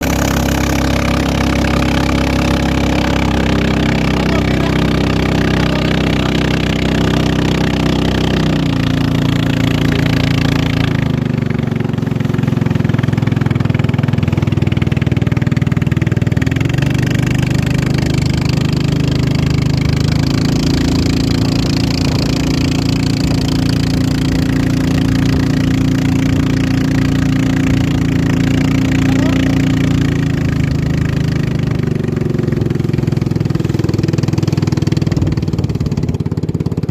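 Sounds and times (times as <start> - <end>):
racing boat engine running: 0.0 - 36.9.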